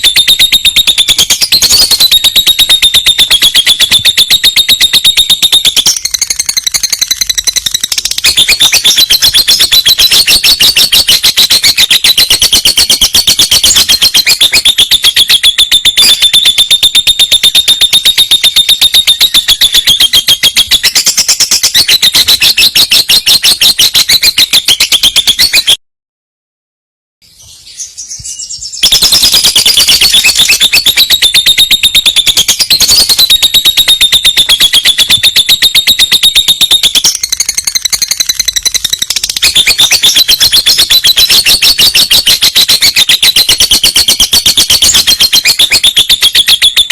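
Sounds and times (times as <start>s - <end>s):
bird trilling: 0.0s - 25.8s, 27.5s - 46.8s.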